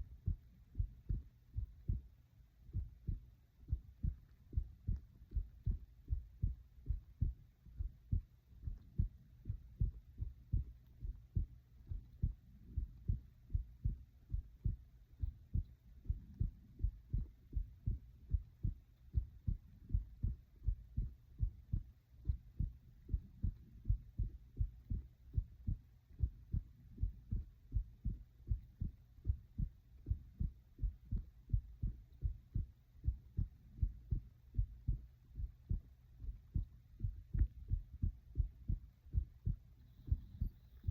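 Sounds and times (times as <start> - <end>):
heart beating: 0.0 - 40.9.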